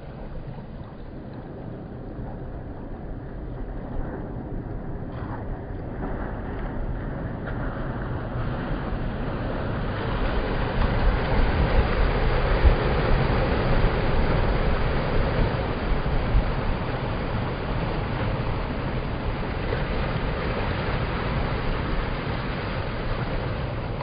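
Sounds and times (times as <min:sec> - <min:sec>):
surf washing over rocks: 0:00.0 - 0:24.0
wind rumbling on microphone: 0:00.0 - 0:24.0.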